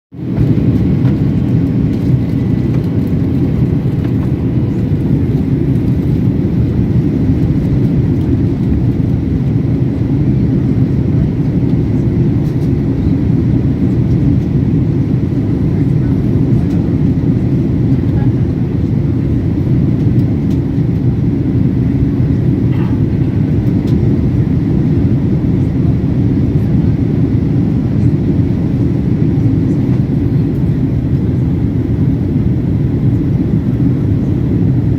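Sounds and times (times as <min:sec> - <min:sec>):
airplane cabin engine rumble: 0:00.2 - 0:34.9.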